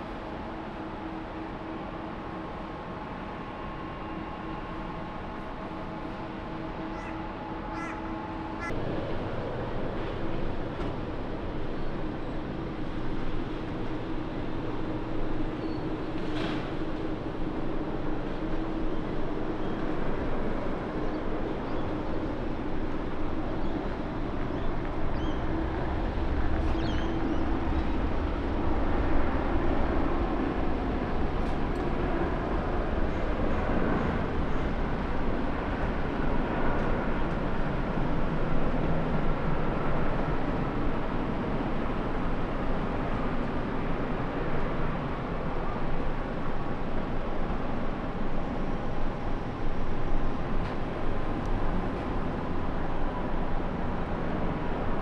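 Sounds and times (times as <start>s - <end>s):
faint engine whine: 0.0s - 55.0s.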